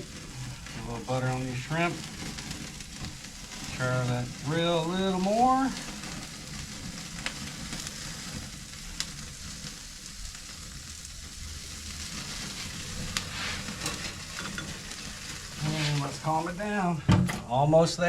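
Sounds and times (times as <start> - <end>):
food sizzling on a charcoal grill: 0.0 - 18.0.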